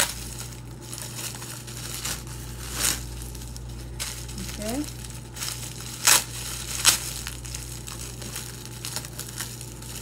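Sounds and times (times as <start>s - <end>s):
plastic bag and bubble wrap crinkling: 0.0s - 10.0s.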